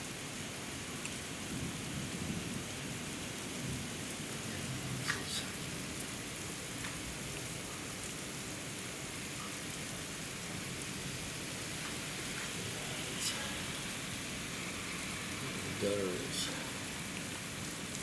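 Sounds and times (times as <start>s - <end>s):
heavy rain on pavement: 0.0s - 18.0s.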